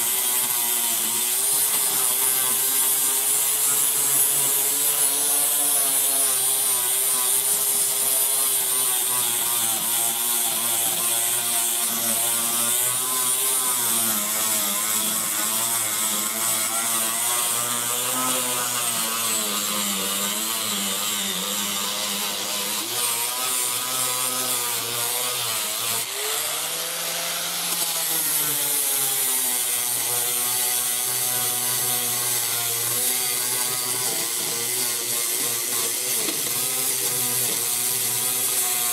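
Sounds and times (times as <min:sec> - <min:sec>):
angle grinder grinding metal: 0:00.0 - 0:38.9.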